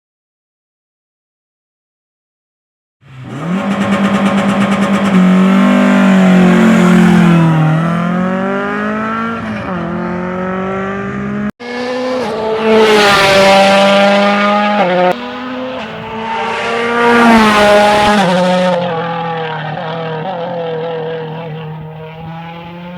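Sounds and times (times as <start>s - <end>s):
rally car engines revving: 3.0s - 22.9s.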